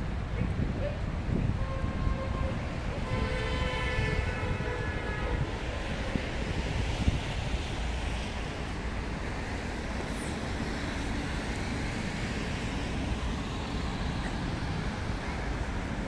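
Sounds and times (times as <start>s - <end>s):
city road traffic rumble: 0.0s - 16.0s.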